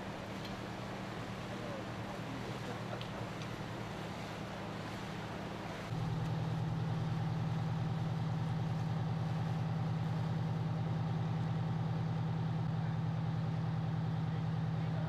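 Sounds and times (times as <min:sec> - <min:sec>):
fire engine idling: 0:00.0 - 0:15.0.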